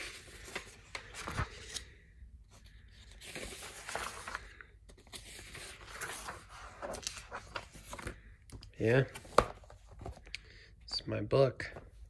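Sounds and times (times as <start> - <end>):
binder pages turning: 0.0 - 10.4.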